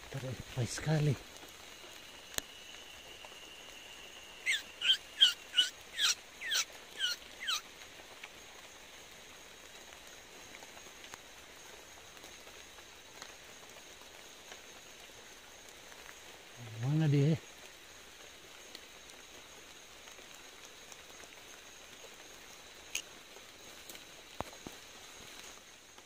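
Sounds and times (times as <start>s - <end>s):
light rain hiss: 0.0s - 26.0s.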